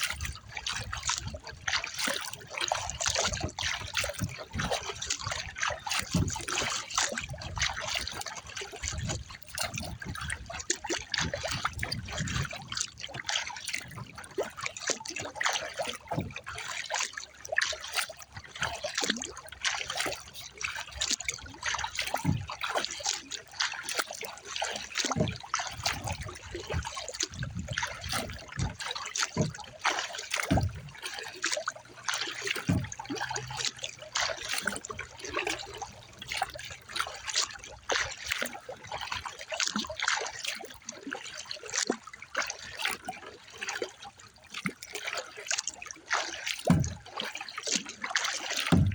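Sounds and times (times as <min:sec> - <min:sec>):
water splashing around kayak: 0:00.0 - 0:48.9.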